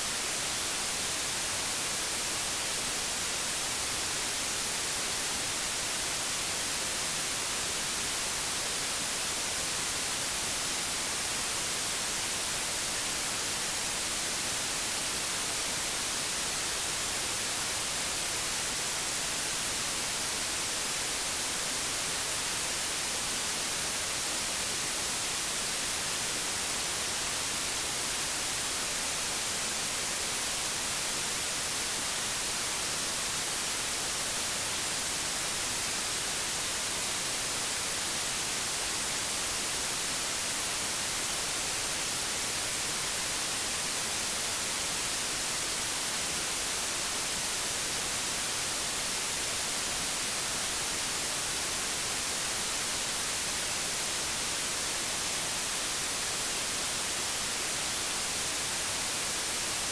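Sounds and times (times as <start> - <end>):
television static hiss: 0.0 - 59.9.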